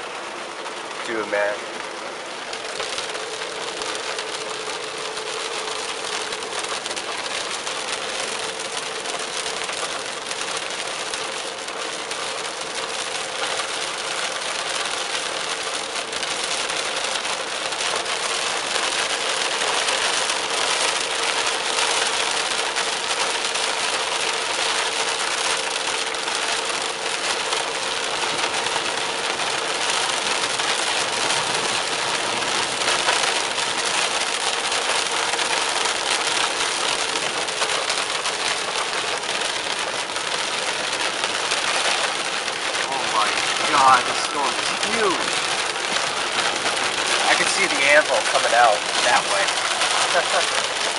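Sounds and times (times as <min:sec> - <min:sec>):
heavy rain on car: 0:00.0 - 0:50.9
tyre hiss on wet road: 0:01.4 - 0:50.9.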